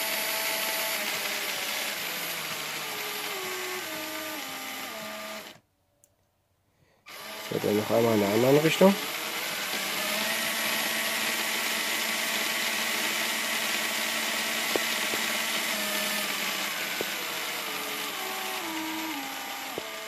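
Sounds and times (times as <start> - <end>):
electric motor and gears whirring: 0.0 - 5.6, 7.1 - 20.0.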